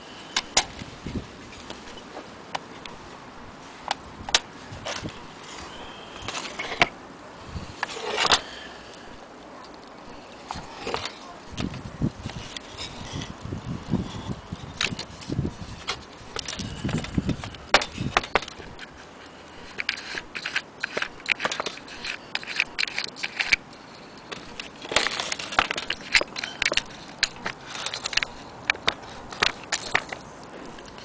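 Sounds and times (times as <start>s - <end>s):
small hard objects clicking and scraping: 0.1s - 3.0s, 3.7s - 31.0s.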